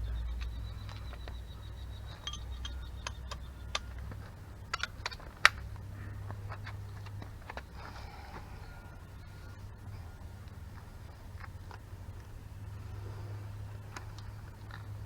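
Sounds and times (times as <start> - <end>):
light clicks of handled tools: 0.0 - 12.4
low steady hum: 0.0 - 15.0.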